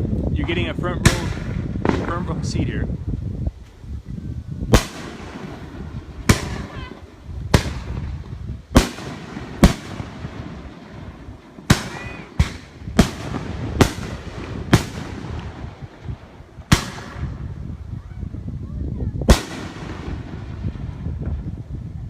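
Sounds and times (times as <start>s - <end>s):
fireworks bangs with echo: 0.4s - 2.8s, 4.7s - 18.0s, 19.2s - 21.6s.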